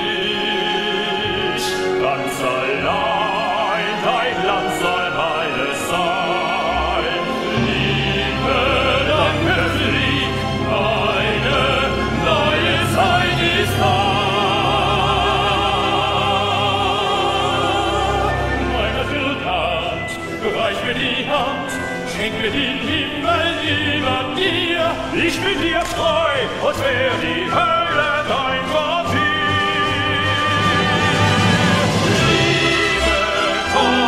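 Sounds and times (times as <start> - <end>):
men singing with vibrato: 0.0 - 34.0
orchestra playing: 0.0 - 34.0.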